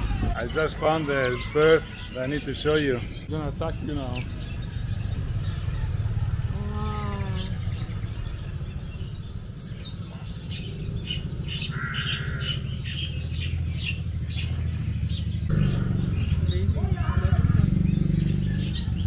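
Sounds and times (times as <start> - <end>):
caged birds squawking and chirping: 0.0 - 19.0.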